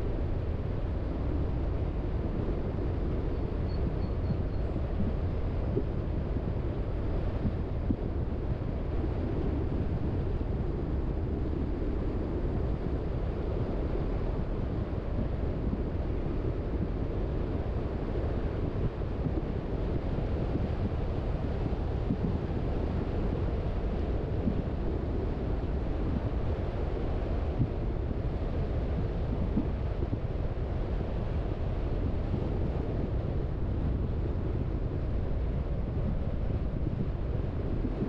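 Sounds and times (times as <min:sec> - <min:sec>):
car tyre and wind rumble: 0:00.0 - 0:38.0.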